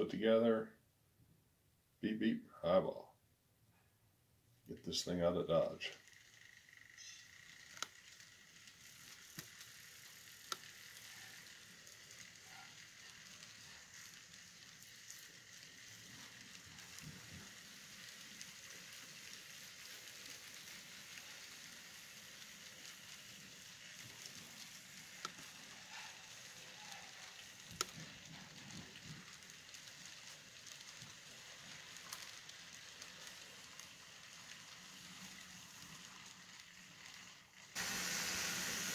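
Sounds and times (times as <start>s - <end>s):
model train cars rolling: 4.8s - 38.9s.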